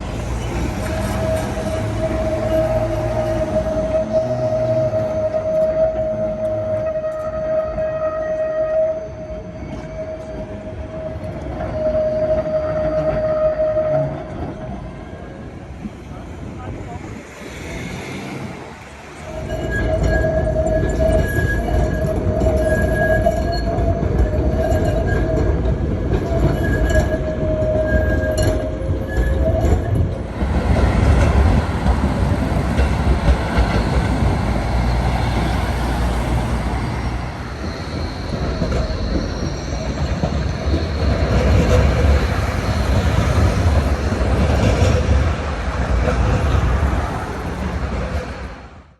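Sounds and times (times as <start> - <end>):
tram wheels squealing on track: 0.0 - 48.9
wheels rumbling on rails: 0.0 - 48.9.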